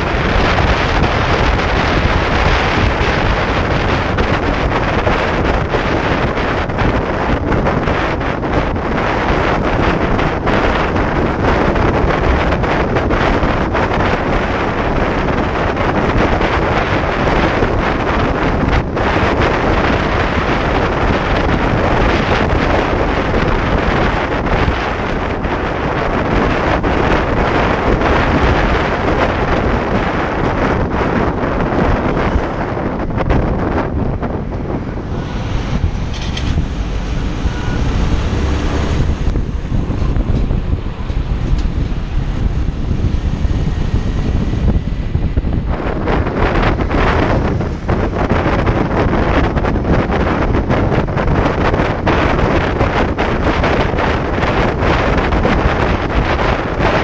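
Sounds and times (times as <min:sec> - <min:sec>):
motorcycle engine rumble: 0:00.0 - 0:57.0
road noise: 0:00.0 - 0:57.0
wind buffeting microphone: 0:00.0 - 0:57.0.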